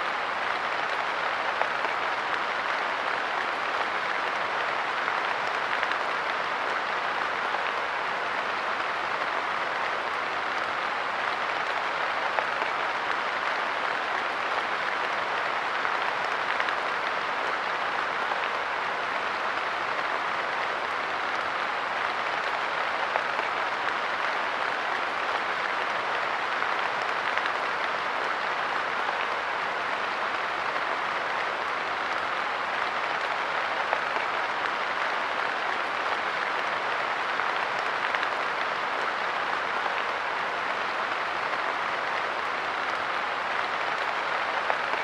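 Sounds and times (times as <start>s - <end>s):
light rain falling: 0.0s - 45.0s.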